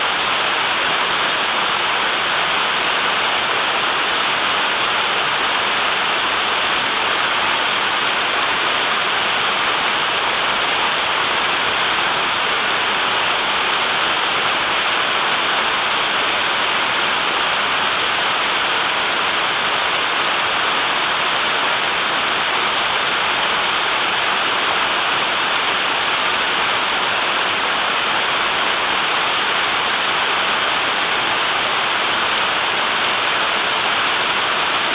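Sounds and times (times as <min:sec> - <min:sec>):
small waterfall rushing: 0:00.0 - 0:34.9.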